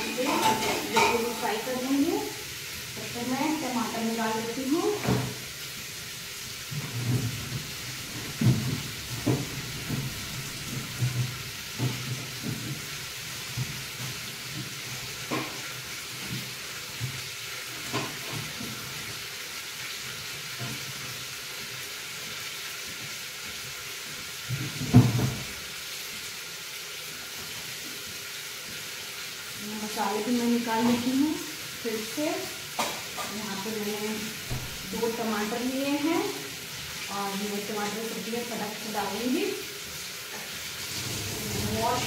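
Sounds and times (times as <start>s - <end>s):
food sizzling in a pot: 0.0s - 42.0s.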